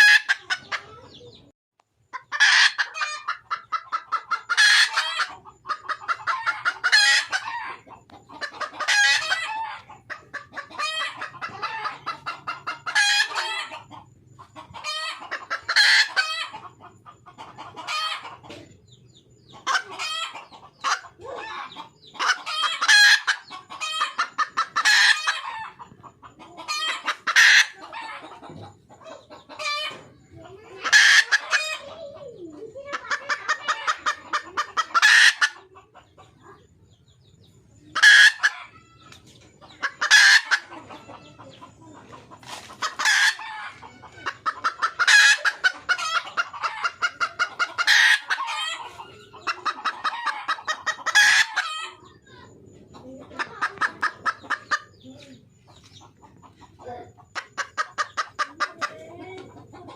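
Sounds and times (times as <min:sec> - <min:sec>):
hen clucking and cackling: 0:00.0 - 0:59.9.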